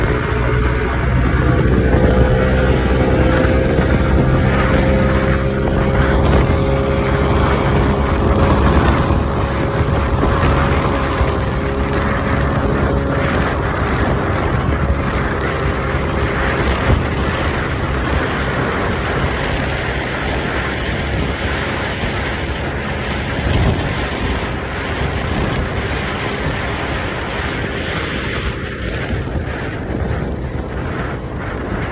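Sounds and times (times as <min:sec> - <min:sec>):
motorboat engine running: 0:00.0 - 0:31.9
wind and water rushing: 0:00.0 - 0:31.9.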